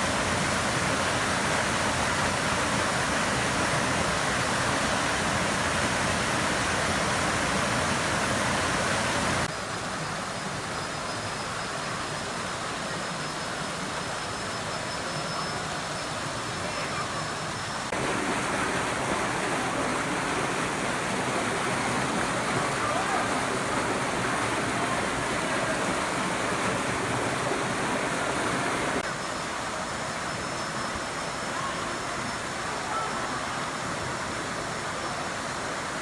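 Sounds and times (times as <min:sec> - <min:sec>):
waterfall rushing water: 0:00.0 - 0:36.0.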